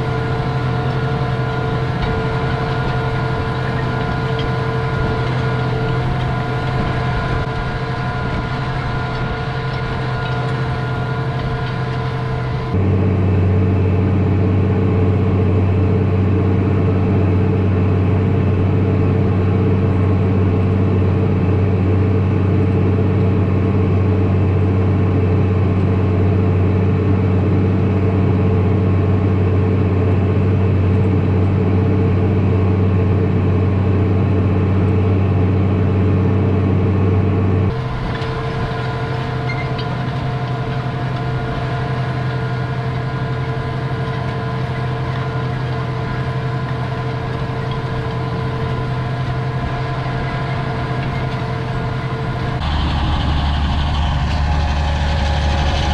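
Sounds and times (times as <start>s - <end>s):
tractor engine droning: 0.0s - 55.9s.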